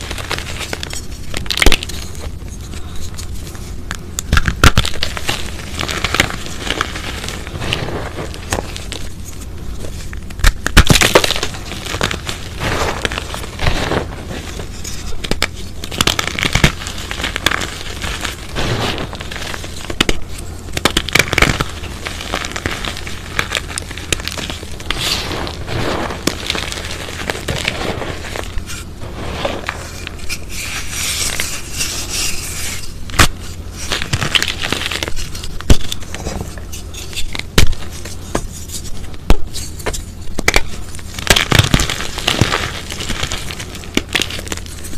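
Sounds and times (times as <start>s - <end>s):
hands crushing crunchy chalk: 0.0s - 44.9s.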